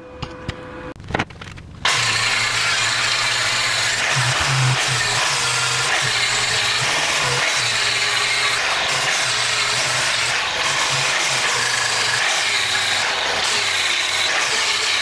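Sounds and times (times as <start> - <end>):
angle grinder grinding steel: 1.9 - 15.0.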